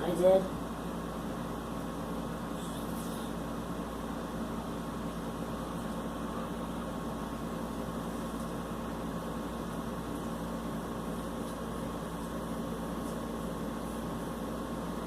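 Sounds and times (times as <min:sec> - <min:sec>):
machine hum with hiss: 0:00.0 - 0:15.0.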